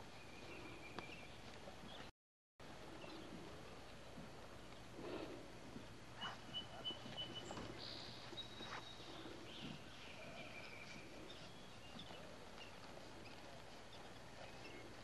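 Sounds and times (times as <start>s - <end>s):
birds singing faintly: 0.0s - 15.0s.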